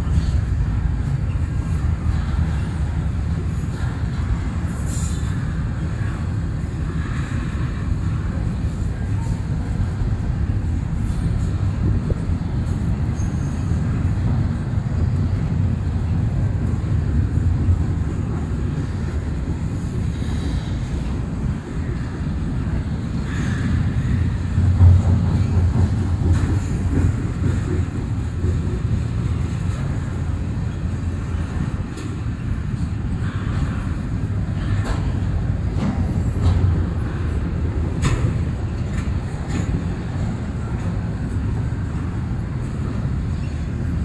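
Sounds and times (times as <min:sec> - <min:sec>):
freight train wheels rumbling on track: 0:00.0 - 0:44.0.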